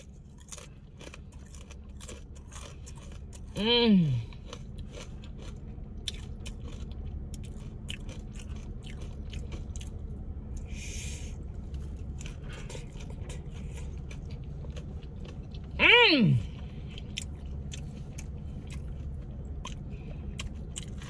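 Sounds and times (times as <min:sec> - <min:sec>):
chewing with crisp crunches: 0:00.0 - 0:21.0
low steady hum: 0:00.0 - 0:21.0.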